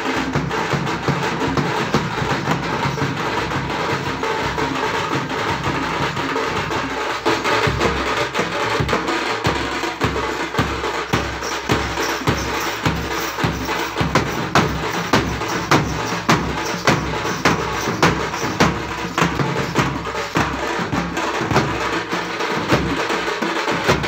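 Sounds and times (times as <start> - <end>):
frame drums in fast rhythm: 0.0 - 24.0
heavy bass drum strokes: 0.0 - 24.0.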